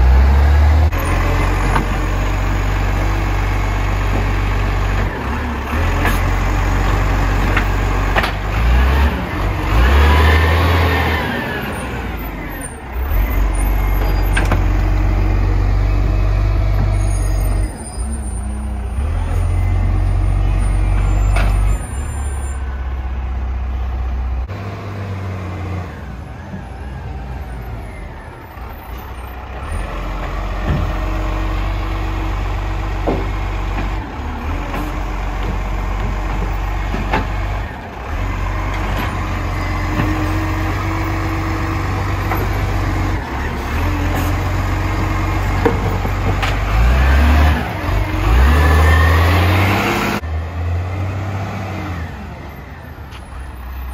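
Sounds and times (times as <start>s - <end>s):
garbage truck engine: 0.0s - 53.9s.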